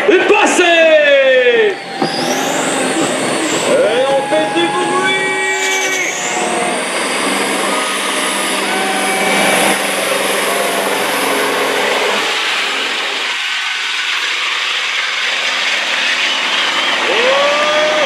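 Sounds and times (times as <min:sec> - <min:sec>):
truck diesel engine at full throttle: 0:00.0 - 0:18.0.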